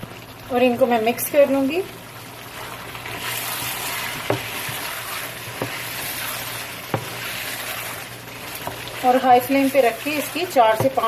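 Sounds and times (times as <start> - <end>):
curry sizzling in hot oil: 0.0 - 11.0.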